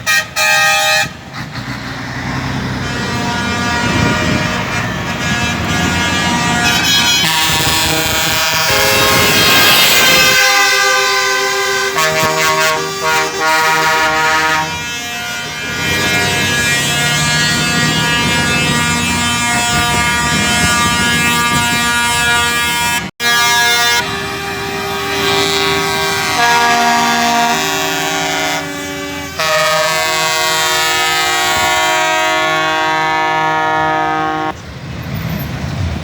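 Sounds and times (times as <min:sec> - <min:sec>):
truck air horns blowing: 0:00.0 - 0:34.6.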